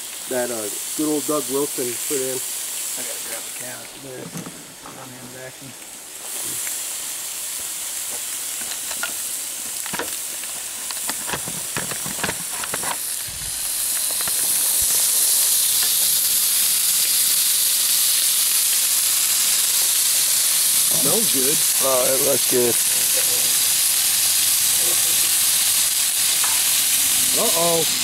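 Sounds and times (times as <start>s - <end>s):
steaks sizzling on grill pan: 0.0s - 28.0s.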